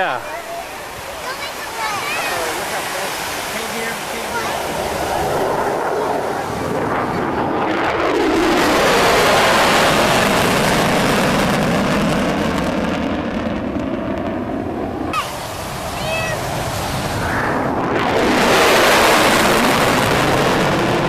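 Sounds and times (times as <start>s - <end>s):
small jet passing by: 0.0s - 21.0s.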